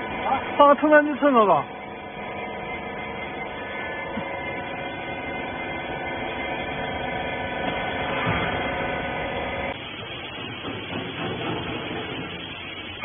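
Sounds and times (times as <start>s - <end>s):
electric motor and pump humming: 0.0s - 13.0s.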